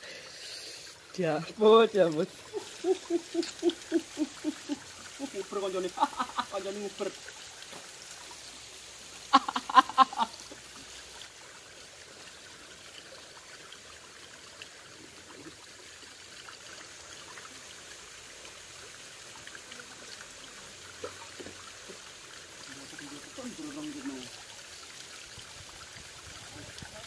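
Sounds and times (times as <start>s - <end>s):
stream trickling over rocks: 0.0s - 27.0s.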